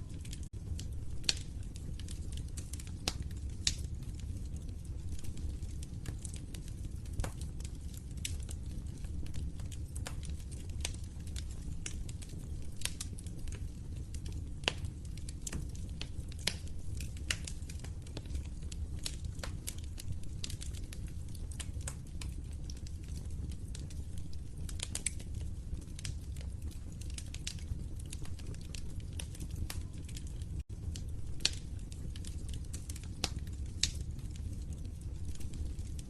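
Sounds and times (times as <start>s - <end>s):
fire crackling and popping: 0.0s - 36.0s
fire flames rumbling: 0.0s - 36.0s.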